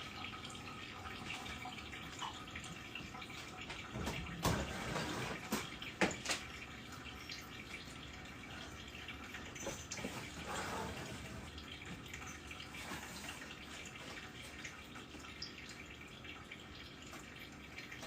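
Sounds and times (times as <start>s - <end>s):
running water trickling: 0.0s - 18.0s.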